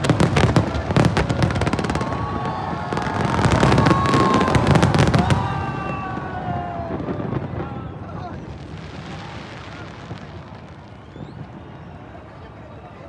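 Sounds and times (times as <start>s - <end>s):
fireworks whistling: 0.0s - 12.2s
fireworks crackling: 0.0s - 12.6s.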